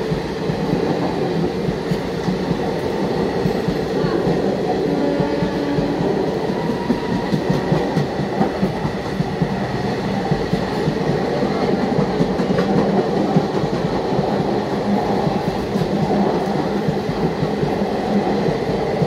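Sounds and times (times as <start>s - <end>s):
train rumbling past: 0.0s - 19.0s
train wheel clatter: 0.0s - 19.0s.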